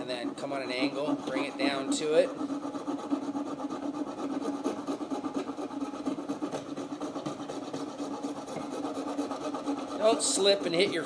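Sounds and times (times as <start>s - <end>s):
hand saw rasping: 0.0s - 11.0s.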